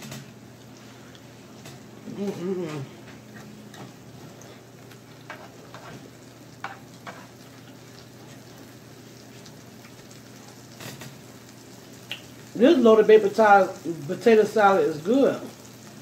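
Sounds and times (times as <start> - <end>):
food sizzling on warming plate: 0.0 - 16.0.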